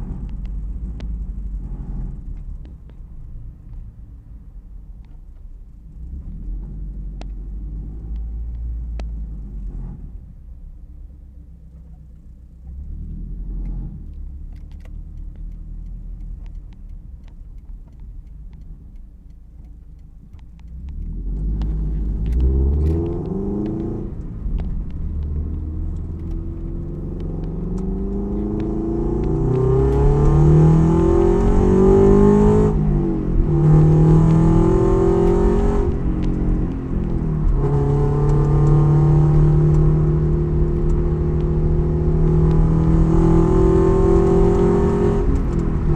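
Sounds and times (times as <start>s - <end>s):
car engine revving: 0.0s - 10.5s, 11.8s - 45.9s.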